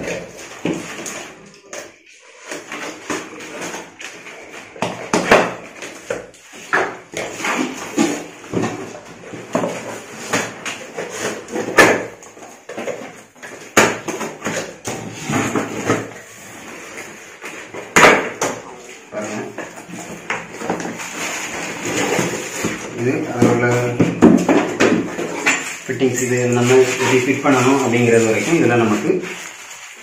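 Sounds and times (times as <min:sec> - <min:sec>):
cardboard rustles and knocks: 0:02.5 - 0:30.0.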